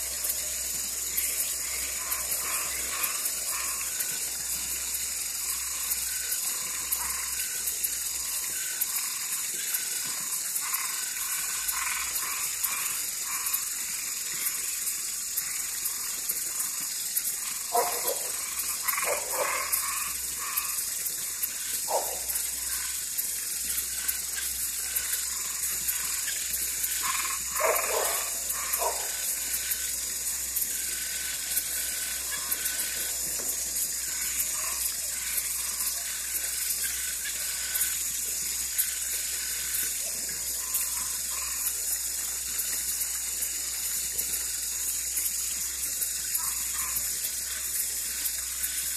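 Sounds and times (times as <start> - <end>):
frogs trilling: 0.0 - 48.9
short frog calls: 0.0 - 48.9.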